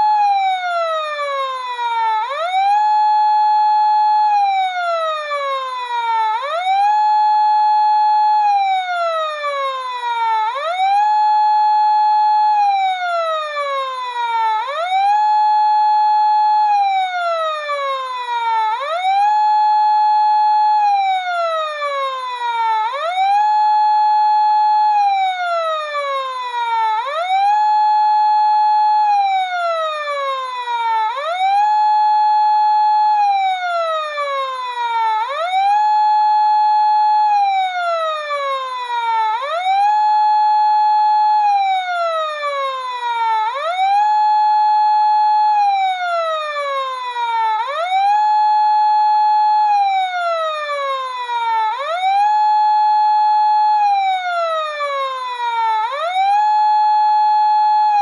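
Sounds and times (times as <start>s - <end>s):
fire alarm siren: 0.0s - 58.0s.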